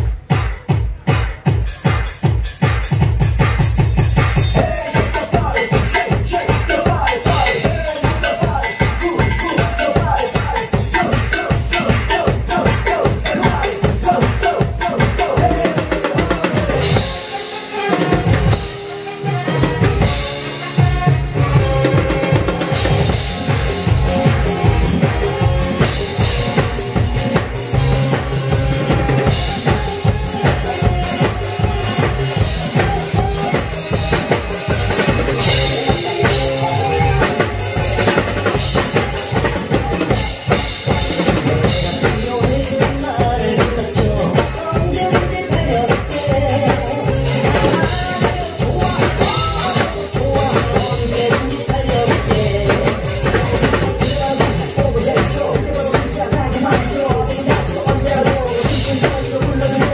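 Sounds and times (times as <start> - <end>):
bass line: 0.0 - 59.9
fast drumming: 0.0 - 59.9.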